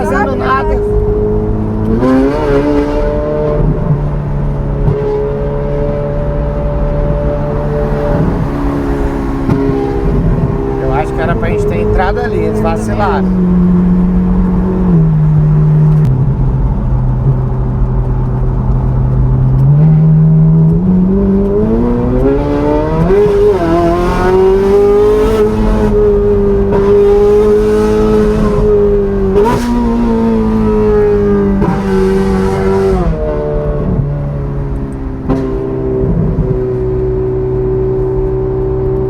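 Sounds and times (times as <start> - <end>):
sports car engine revving: 0.0 - 39.0.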